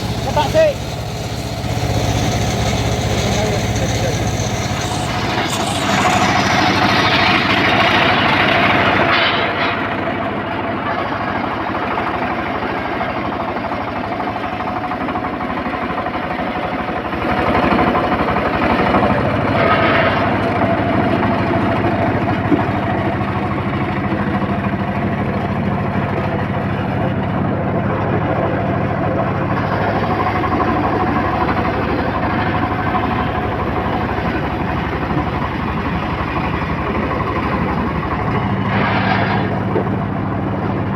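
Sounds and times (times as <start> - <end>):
engine-driven circular saw sawing wood: 0.0 - 40.9.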